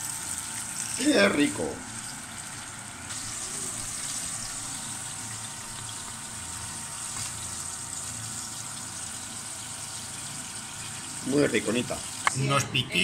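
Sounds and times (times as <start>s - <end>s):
hot oil sizzling in a frying pan: 0.0s - 12.4s.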